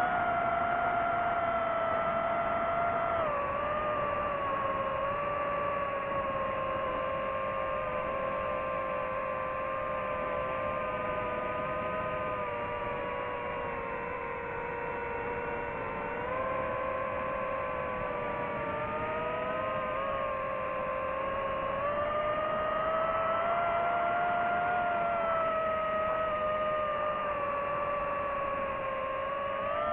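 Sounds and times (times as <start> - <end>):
drone motors whining: 0.0 - 29.9.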